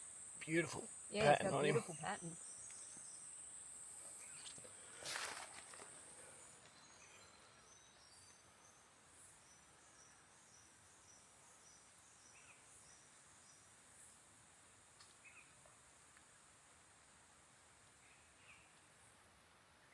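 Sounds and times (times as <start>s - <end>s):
high insect drone: 0.0s - 19.2s.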